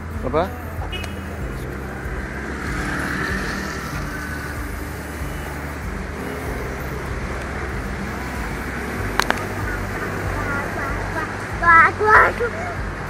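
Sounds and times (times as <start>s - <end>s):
cars passing on wet street: 0.0s - 13.0s
low engine hum: 0.0s - 13.0s.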